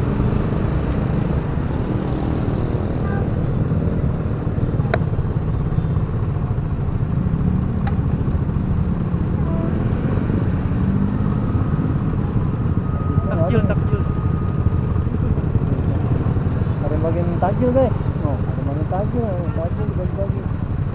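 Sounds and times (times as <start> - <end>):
motorcycle engine running: 0.0 - 20.9
road noise: 0.0 - 20.9.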